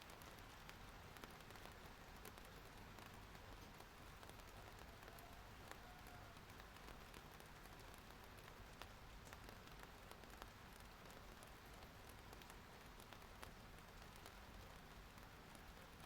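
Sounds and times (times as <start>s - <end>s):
faint rain hiss: 0.0s - 16.0s.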